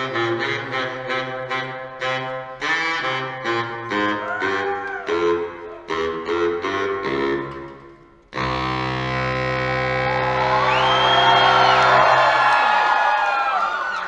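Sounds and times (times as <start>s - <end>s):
baritone saxophone riff: 0.0s - 12.2s.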